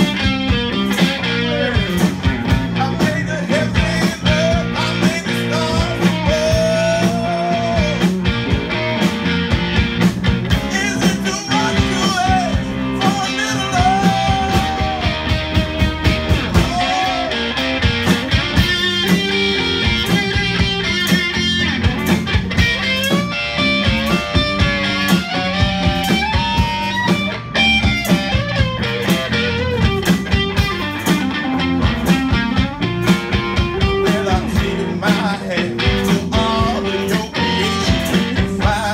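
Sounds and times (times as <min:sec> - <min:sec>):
drum beats: 0:00.0 - 0:38.9
live rock band playing: 0:00.0 - 0:38.9.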